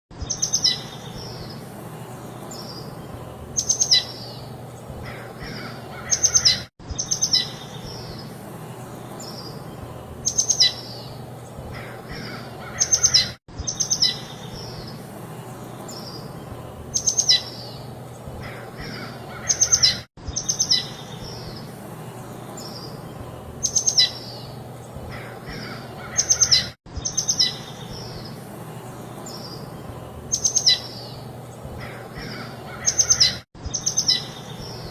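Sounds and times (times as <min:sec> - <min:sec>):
soft breeze hiss: 0:00.1 - 0:33.0
small birds chirping: 0:00.1 - 0:34.9.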